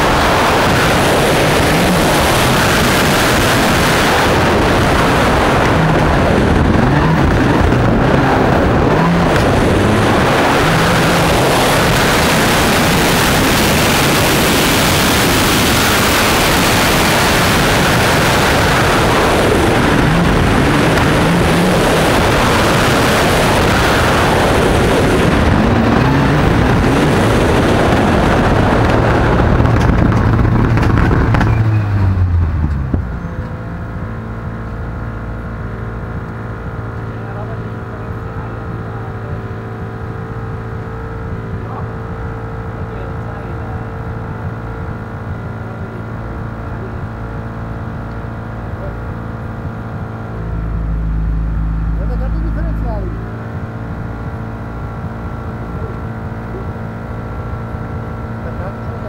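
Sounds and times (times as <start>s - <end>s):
car engine idling: 0.0s - 59.0s
rally car engine revving: 0.0s - 59.0s.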